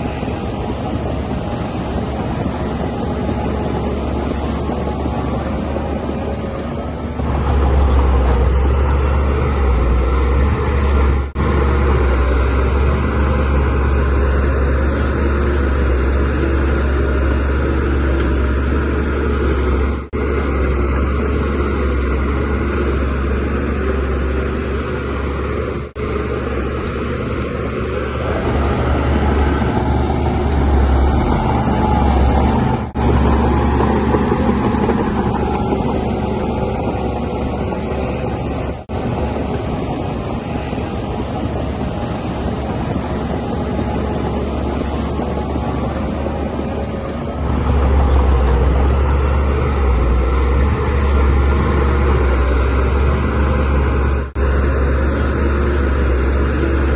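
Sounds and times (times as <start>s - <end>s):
bulldozer diesel engine rumbling: 0.0s - 56.9s.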